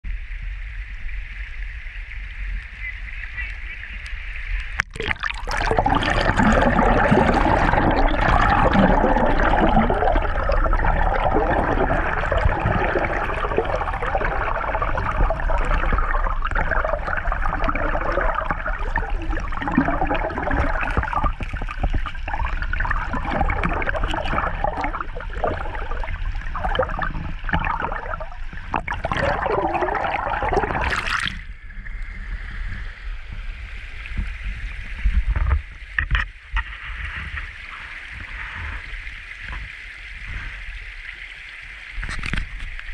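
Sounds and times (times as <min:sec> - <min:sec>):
creek water rushing underwater: 0:00.1 - 0:42.9.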